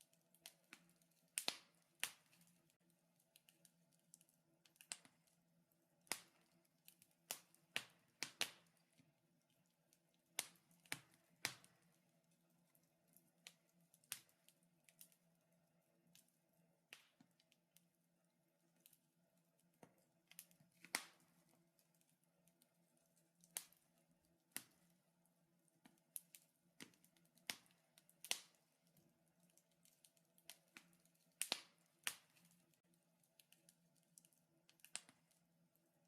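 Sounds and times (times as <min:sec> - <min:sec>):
wood fire crackling: 0:00.0 - 0:17.9, 0:18.6 - 0:36.0.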